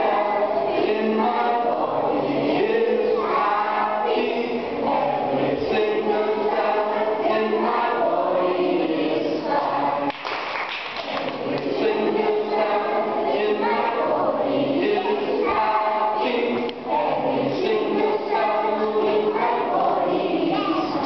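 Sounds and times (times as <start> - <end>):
group singing in unison: 0.0 - 21.0.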